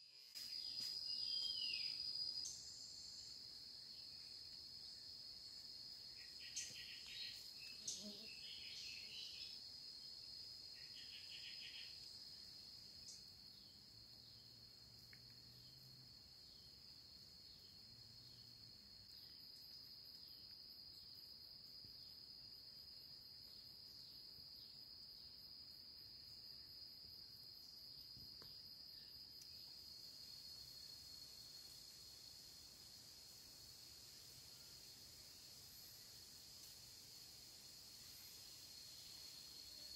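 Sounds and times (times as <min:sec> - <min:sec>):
insects droning high-pitched whine: 0:00.0 - 0:39.9.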